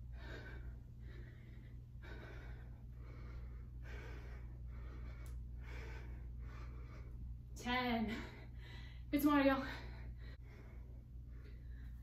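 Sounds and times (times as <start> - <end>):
steady low hum: 0.0 - 12.0
woman breathing hard: 0.0 - 12.0.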